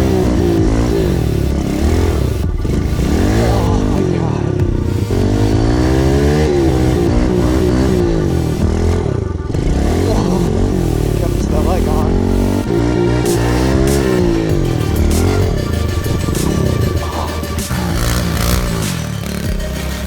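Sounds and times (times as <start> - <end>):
small motorbike engine revving: 0.0 - 20.0.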